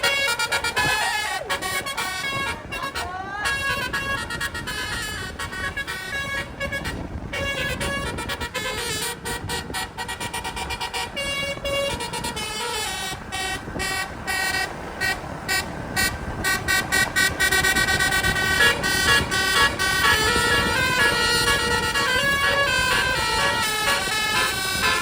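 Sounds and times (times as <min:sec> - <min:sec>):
musical air horn playing a tune: 0:00.0 - 0:25.0
traffic rumble: 0:00.0 - 0:25.0.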